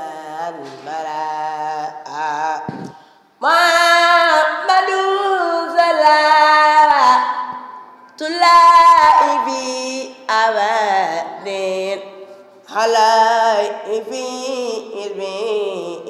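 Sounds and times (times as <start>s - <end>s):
person chanting unaccompanied: 0.0s - 16.0s.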